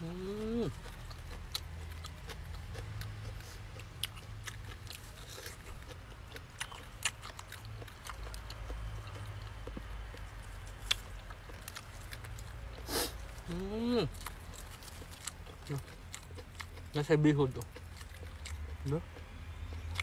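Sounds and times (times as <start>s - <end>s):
person chewing: 0.0s - 20.0s.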